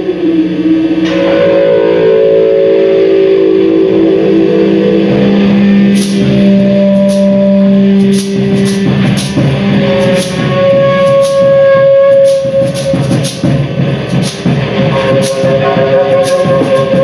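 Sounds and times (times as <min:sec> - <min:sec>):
loud held pitched tones: 0:00.0 - 0:17.0
sharp high percussive strikes: 0:01.0 - 0:17.0.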